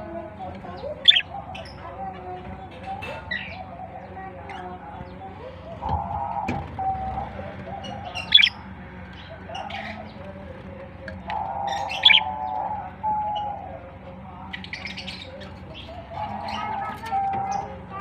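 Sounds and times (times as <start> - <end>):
budgerigars chattering: 0.0 - 10.5, 11.1 - 18.0.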